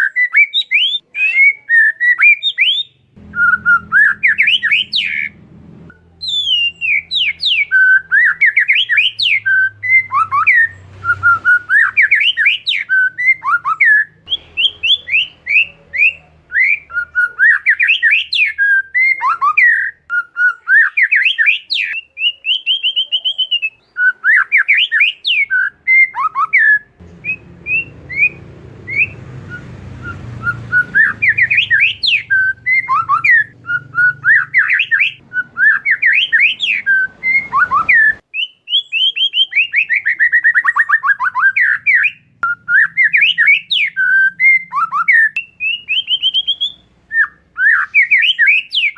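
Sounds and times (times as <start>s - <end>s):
bird singing whistles: 0.0s - 48.9s.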